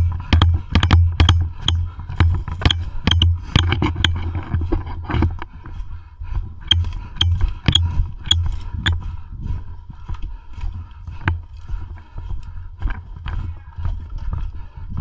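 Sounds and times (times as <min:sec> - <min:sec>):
footsteps crunching on rough ground: 0:01.8 - 0:15.0.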